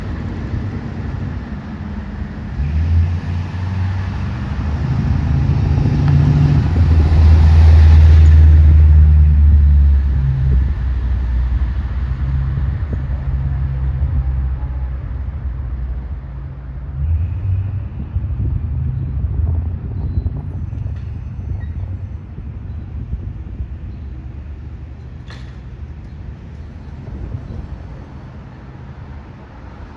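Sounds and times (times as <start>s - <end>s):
fire engine driving past: 0.0s - 25.0s.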